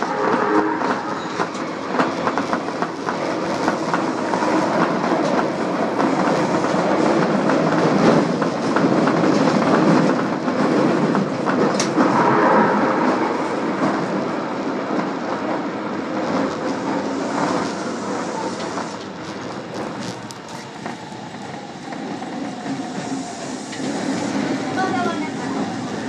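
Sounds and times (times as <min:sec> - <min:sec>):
rumble of train wheels on rail: 0:00.0 - 0:26.0.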